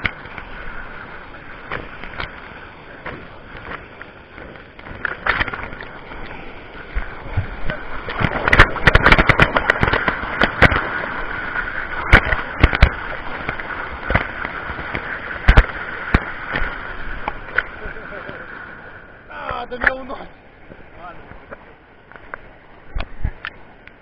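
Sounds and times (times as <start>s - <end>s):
water splashing on camera: 0.0s - 24.0s.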